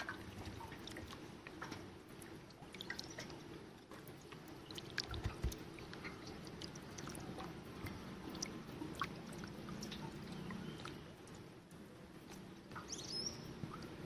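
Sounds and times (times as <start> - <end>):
small clicks and ticks: 0.0 - 13.0
low steady hum: 0.0 - 14.0
water sloshing and splashing: 0.0 - 14.0.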